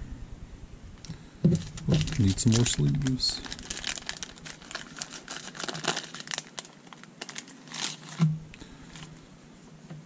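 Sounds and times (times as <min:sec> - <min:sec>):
plastic bag crinkling: 0:01.0 - 0:09.3.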